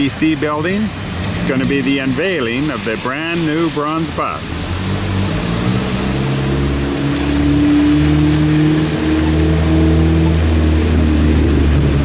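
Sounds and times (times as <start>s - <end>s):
vehicle engine humming: 0.0s - 12.0s
tyres hissing on wet pavement: 0.1s - 10.6s.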